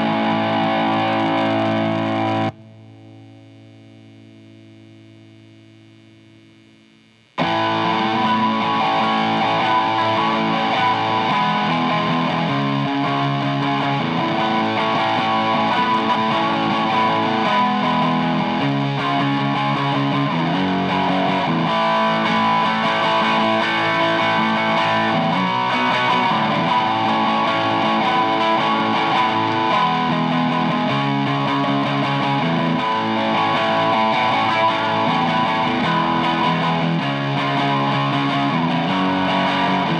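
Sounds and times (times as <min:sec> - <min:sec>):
distorted electric guitar chords: 0:00.0 - 0:39.9.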